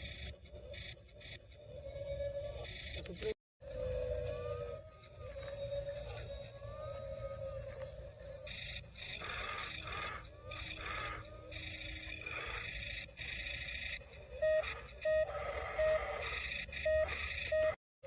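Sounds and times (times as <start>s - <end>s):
electronic toy sound effects: 0.0s - 17.8s.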